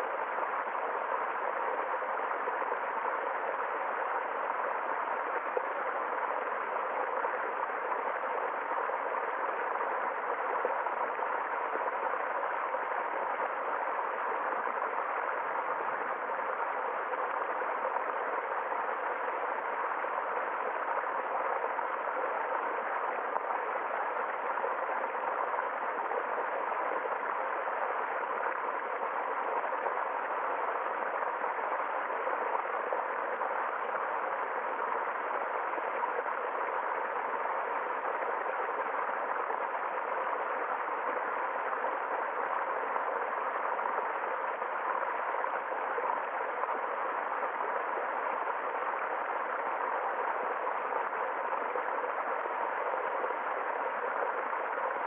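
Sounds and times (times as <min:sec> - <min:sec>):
stream babbling over stones: 0:00.1 - 0:55.0.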